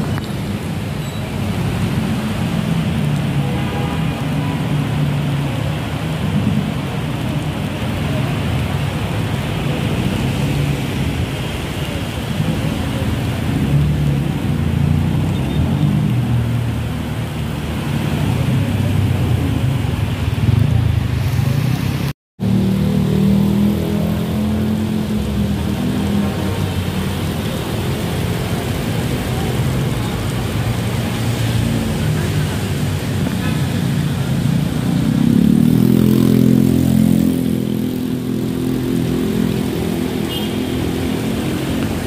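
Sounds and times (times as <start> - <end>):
car and motorbike engines in traffic: 0.0 - 42.0
heavy rain on road: 0.0 - 42.0.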